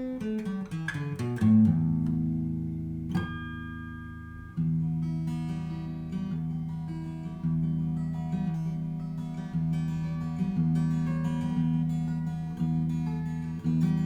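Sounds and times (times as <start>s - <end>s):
acoustic guitar fingerpicked: 0.0s - 14.0s.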